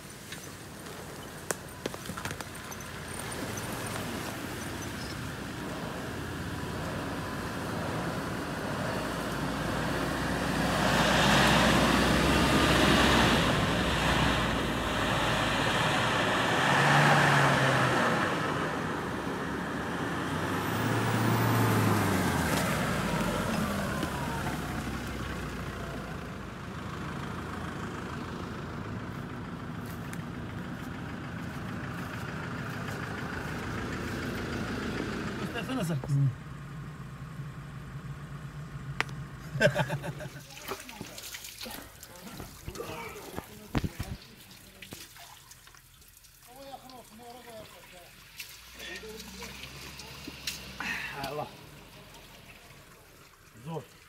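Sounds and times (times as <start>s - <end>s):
off-road truck engines revving: 0.0s - 45.2s, 45.8s - 53.9s.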